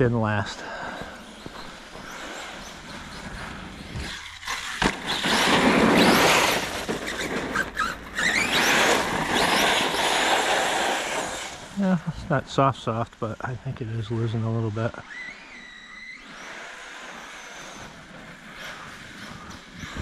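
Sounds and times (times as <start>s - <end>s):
tyres churning snow: 0.0s - 20.0s
electric motor whining: 0.8s - 11.9s, 13.4s - 20.0s.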